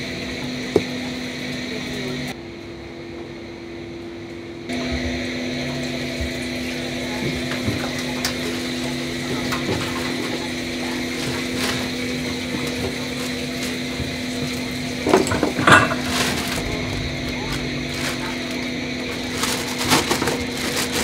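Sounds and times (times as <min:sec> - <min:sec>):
kitchen equipment humming: 0:00.0 - 0:21.0.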